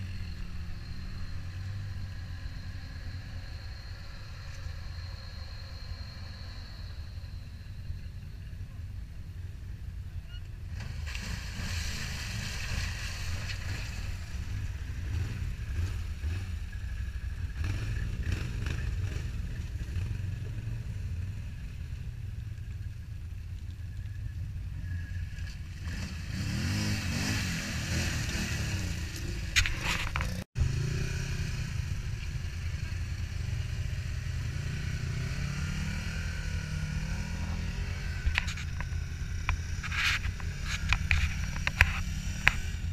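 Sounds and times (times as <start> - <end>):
quad bike engines revving: 0.0 - 42.9.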